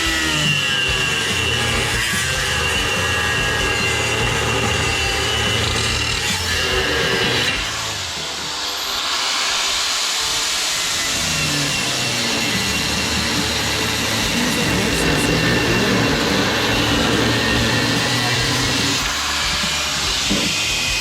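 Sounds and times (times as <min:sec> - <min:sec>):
angle grinder cutting metal: 0:00.0 - 0:21.0.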